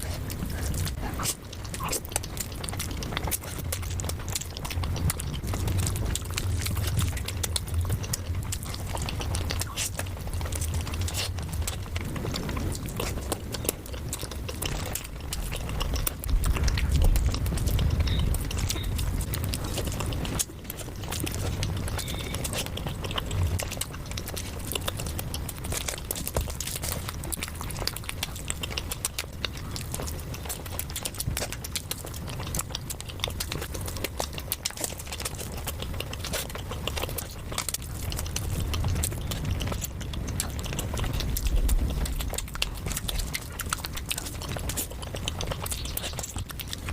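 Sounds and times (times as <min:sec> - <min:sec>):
chewing and biting food: 0:00.0 - 0:46.9.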